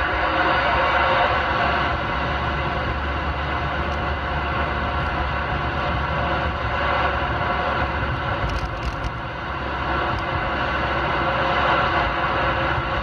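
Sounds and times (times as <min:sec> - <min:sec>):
road and tyre noise: 0:00.0 - 0:13.0.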